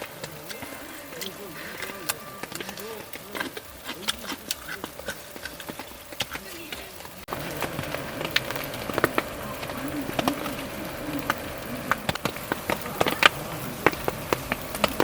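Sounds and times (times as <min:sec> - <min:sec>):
faint steady hum: 0:00.0 - 0:15.0
raindrops tapping on tent fabric: 0:00.0 - 0:15.0.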